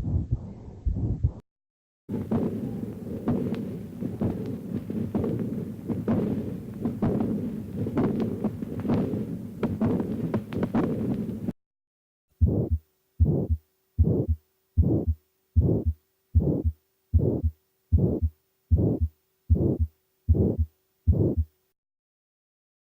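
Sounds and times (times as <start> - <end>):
heartbeat with murmur: 0.0 - 1.4, 2.1 - 11.5, 12.4 - 21.5.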